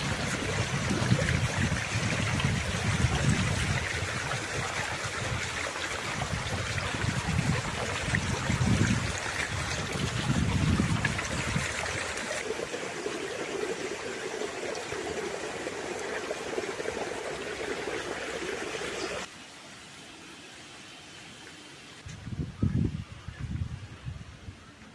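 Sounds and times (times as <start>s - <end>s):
flowing water rushing: 0.0s - 22.0s.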